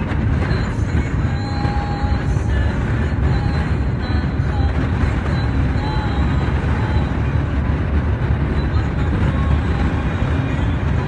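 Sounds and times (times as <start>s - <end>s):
car road and wind rumble: 0.0s - 11.0s.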